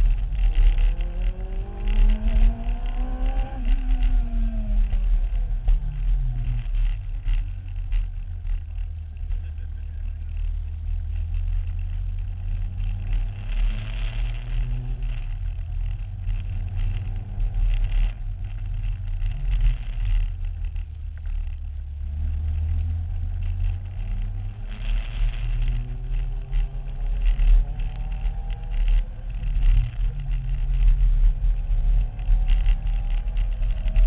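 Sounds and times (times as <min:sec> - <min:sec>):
small car engine revving: 0:00.0 - 0:34.0.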